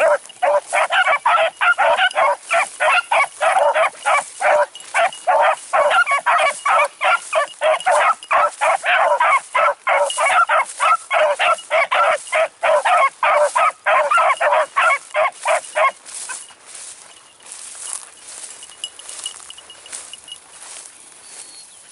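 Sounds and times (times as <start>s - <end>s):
beagles baying: 0.0s - 20.3s.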